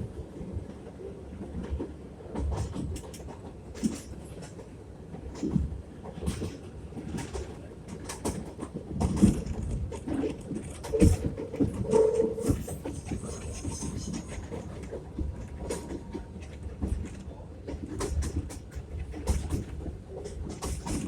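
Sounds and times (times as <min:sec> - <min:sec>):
subway car rumbling: 0:00.0 - 0:21.0
wheels clattering on rails: 0:01.5 - 0:21.0.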